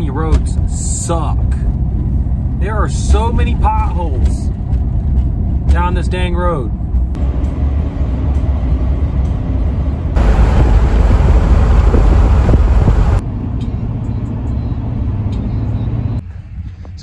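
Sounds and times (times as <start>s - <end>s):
road and engine noise in van: 0.0s - 17.0s.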